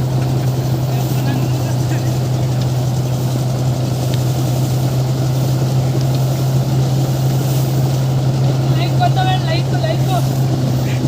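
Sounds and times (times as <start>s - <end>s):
thresher running: 0.0s - 11.0s.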